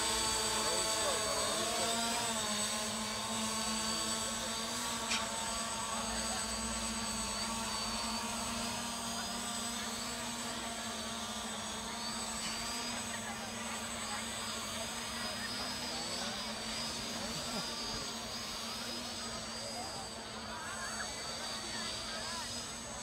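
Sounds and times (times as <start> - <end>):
drone hovering hum: 0.0 - 23.0.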